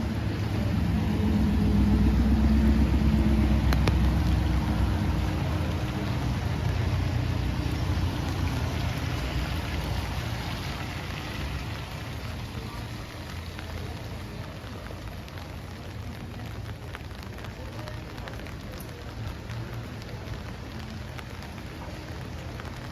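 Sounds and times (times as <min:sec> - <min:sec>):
steady rain on street: 0:00.0 - 0:22.9
vehicle passing rumble: 0:00.0 - 0:22.9.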